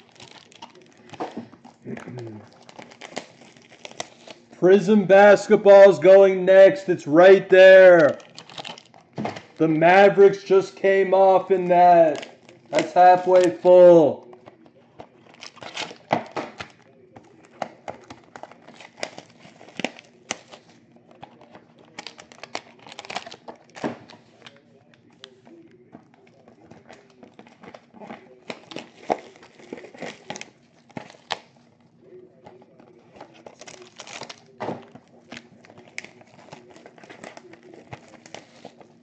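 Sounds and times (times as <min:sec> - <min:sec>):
packaging being torn and crinkled: 0:00.0 - 0:04.6, 0:07.6 - 0:24.6, 0:26.4 - 0:39.0.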